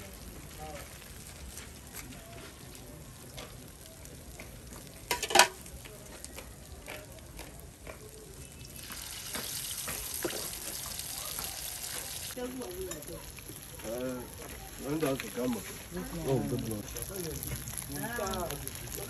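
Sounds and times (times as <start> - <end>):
batter sizzling in hot oil: 0.0 - 19.0.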